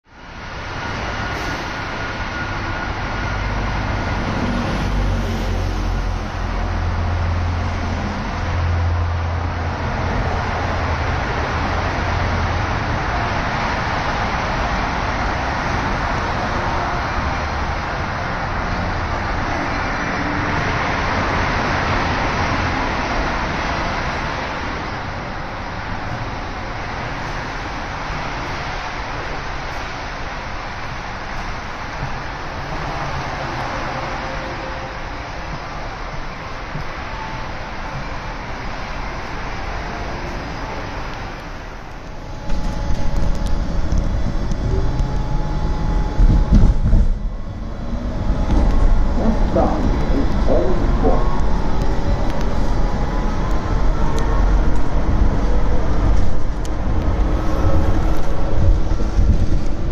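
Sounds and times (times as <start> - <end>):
subway wheels rushing on rail: 0.0 - 59.9.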